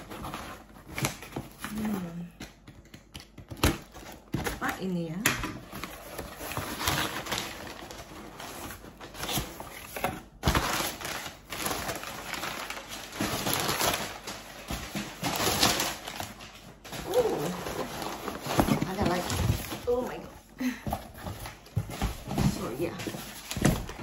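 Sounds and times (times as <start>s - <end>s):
packing paper rustling and crinkling: 0.0s - 24.0s.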